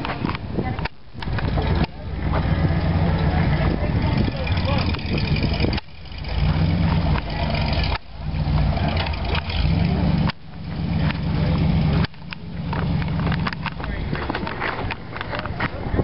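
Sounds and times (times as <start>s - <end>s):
car engines humming: 0.0s - 16.0s.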